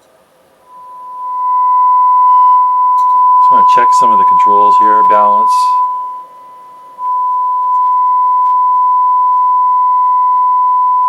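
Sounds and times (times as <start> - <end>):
steady test tone: 0.6 - 11.0.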